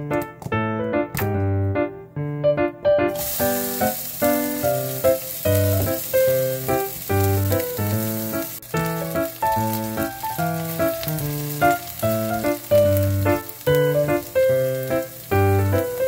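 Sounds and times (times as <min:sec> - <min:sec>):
light keyboard tune: 0:00.0 - 0:16.0
onions sizzling in hot oil: 0:03.1 - 0:16.0.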